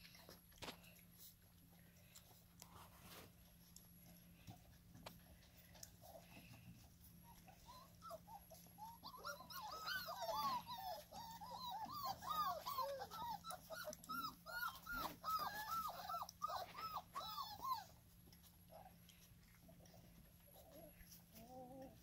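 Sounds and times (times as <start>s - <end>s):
puppies whining: 0.0s - 22.0s.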